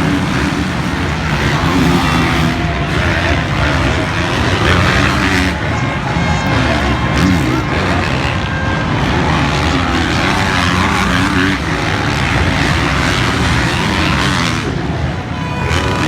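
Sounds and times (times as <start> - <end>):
motocross bike engines racing: 0.0 - 16.0.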